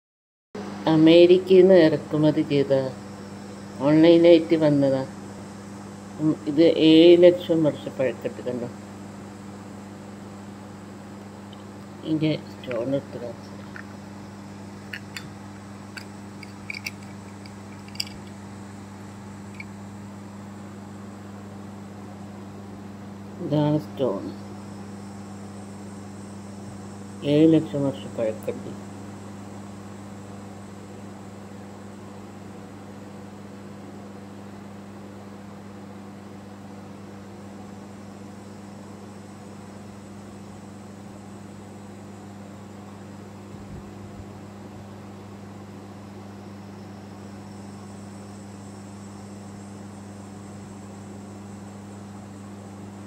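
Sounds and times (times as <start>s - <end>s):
steady low hum: 0.6s - 53.0s.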